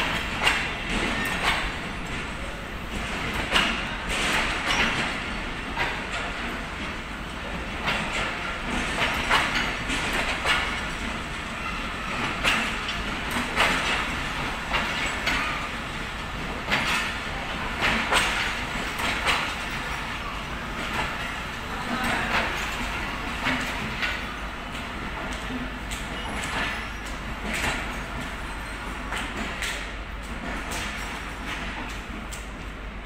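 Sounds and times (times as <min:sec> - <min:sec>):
train rolling rumble: 0:00.0 - 0:33.0
train wheels clacking over rail joints: 0:00.0 - 0:33.0.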